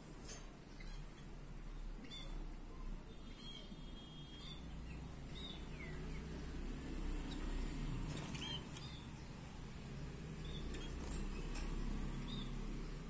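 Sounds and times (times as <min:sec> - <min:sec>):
finches chirping: 0:00.3 - 0:13.0.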